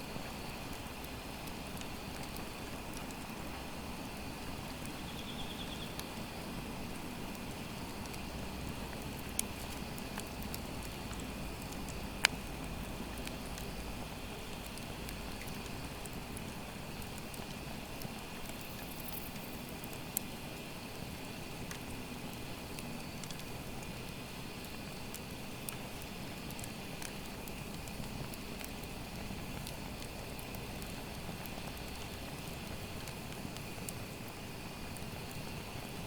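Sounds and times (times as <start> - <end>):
wood fire crackling: 5.7 - 36.0.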